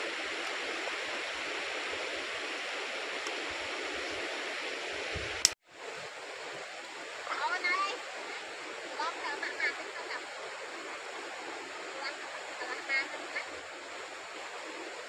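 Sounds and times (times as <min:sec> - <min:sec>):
river flowing over stones: 0:00.0 - 0:15.0.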